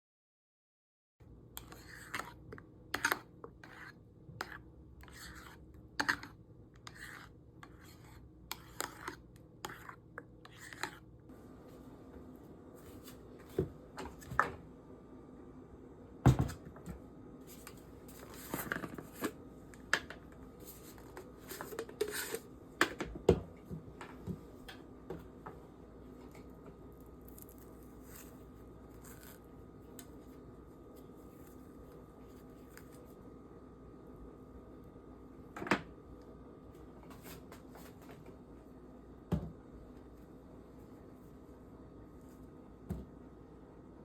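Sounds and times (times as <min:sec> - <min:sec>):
faint steady hum: 0:01.2 - 0:44.0.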